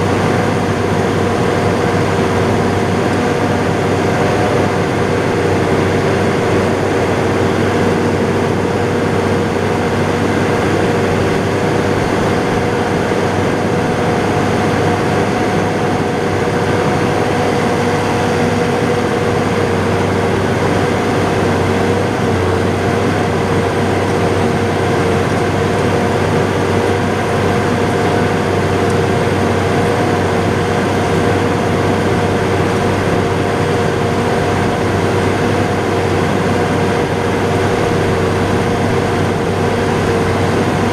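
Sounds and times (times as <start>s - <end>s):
steady engine whine: 0.0s - 40.9s
tractor engine droning: 0.0s - 40.9s.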